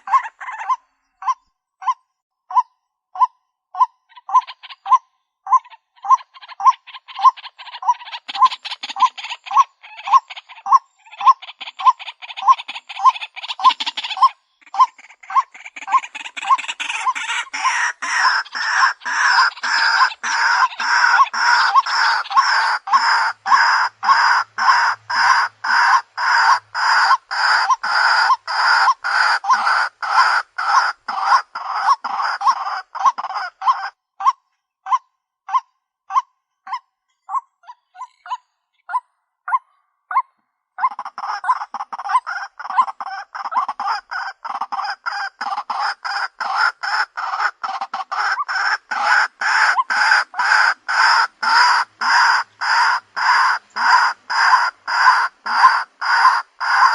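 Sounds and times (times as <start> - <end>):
waterhen harsh repeated calls: 0.0 - 40.2, 40.8 - 56.9.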